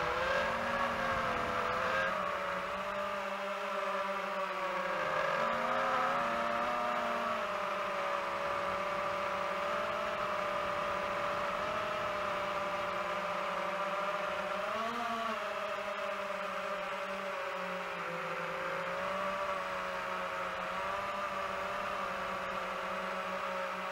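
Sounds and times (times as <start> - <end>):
drone propellers whining: 0.0 - 23.9.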